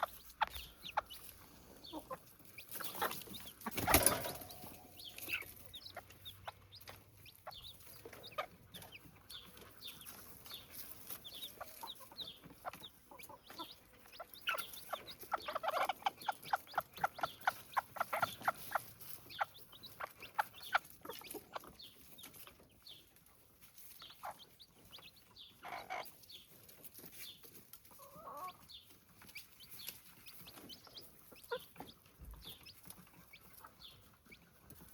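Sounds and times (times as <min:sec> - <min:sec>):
chick calls: 0:00.0 - 0:23.1, 0:24.0 - 0:34.9
chicks pecking at feed: 0:00.0 - 0:34.9.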